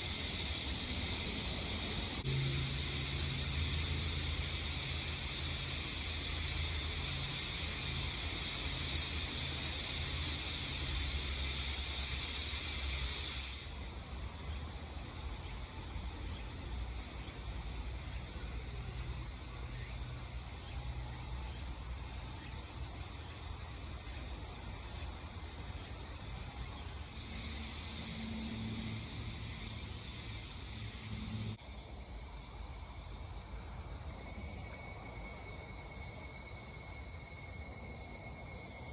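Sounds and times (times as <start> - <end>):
insect chorus buzzing: 0.0 - 38.9.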